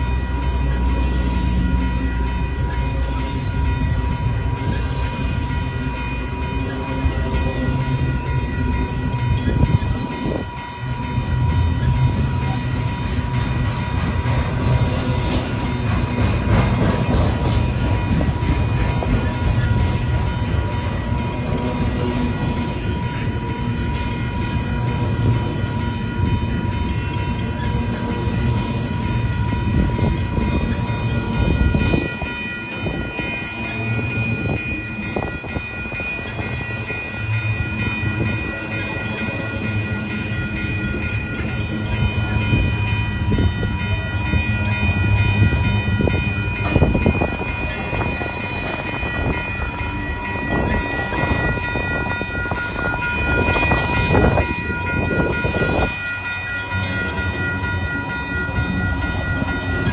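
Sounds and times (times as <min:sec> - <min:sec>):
freight cars rolling on rail: 0:00.0 - 0:59.9.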